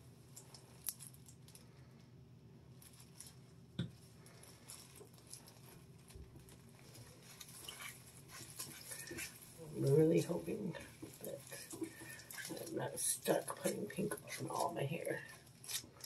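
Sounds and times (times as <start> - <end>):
gloved hands rustling: 2.7 - 16.0.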